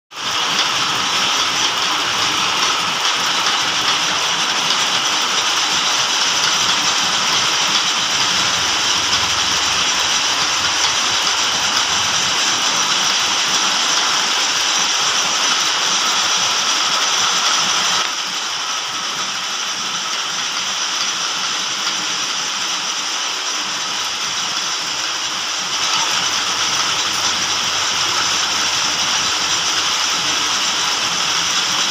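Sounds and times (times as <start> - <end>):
metal lathe whirring: 0.1 - 31.9.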